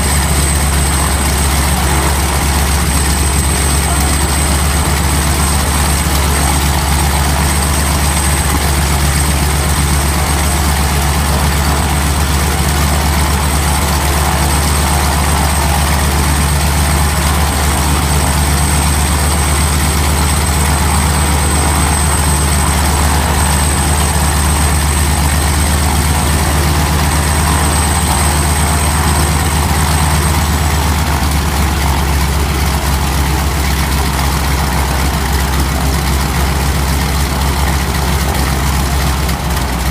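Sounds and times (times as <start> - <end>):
propeller turning: 0.0 - 39.9
radial engine idling: 0.0 - 39.9.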